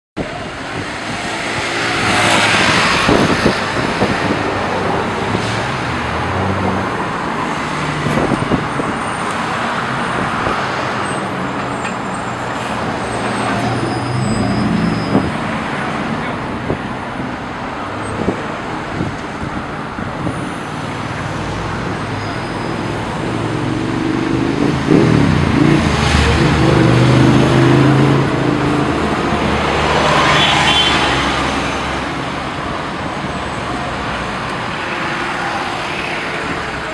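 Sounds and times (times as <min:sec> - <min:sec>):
bus engine: 0:00.2 - 0:36.9
cars driving past: 0:00.6 - 0:36.9.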